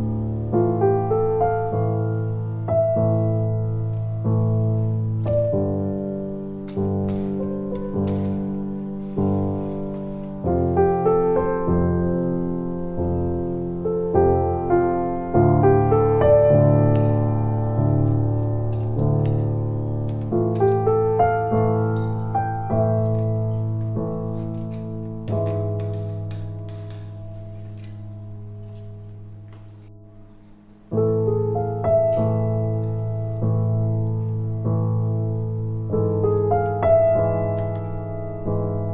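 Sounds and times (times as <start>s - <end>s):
slow piano chords: 0.0s - 38.9s.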